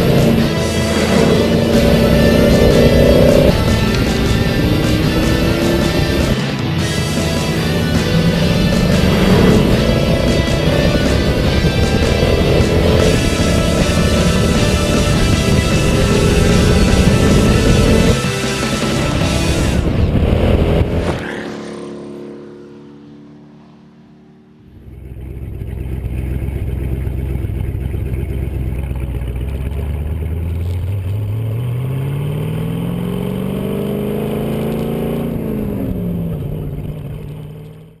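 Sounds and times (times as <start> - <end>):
supercar engine revving: 0.0 - 38.0.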